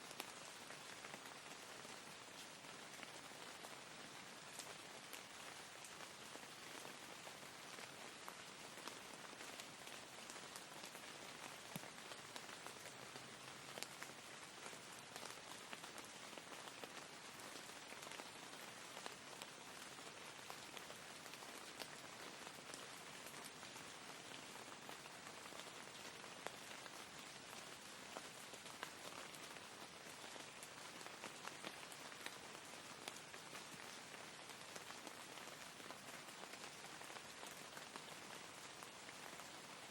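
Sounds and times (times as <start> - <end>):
steady rain hiss: 0.0 - 39.9
raindrops ticking: 4.4 - 39.8.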